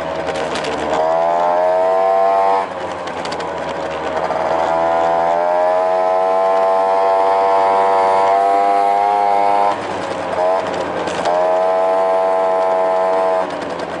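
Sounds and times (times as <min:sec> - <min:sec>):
scooter engine buzzing: 0:00.0 - 0:14.0.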